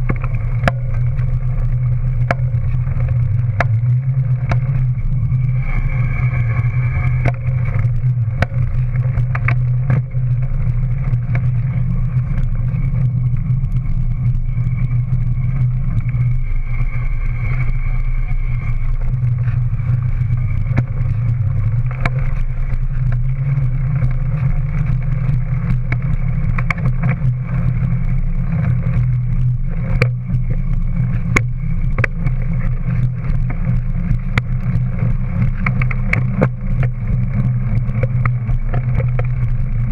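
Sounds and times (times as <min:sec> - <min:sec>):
bike tyre rumbling on pavement: 0:00.0 - 0:39.9.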